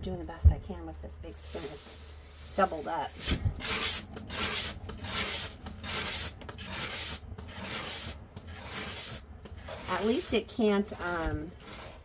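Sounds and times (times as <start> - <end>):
board scraping on spinner: 1.4 - 12.0.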